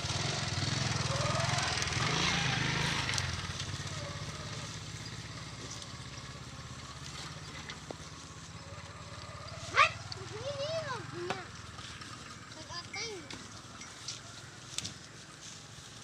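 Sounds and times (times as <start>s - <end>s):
small engine throbbing: 0.0s - 14.6s.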